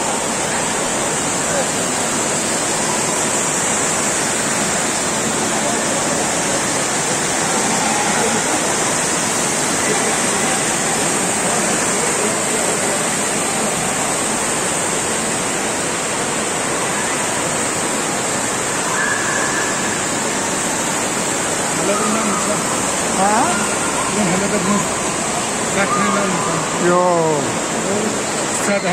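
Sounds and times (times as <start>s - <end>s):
fountain water cascading: 0.0s - 28.9s.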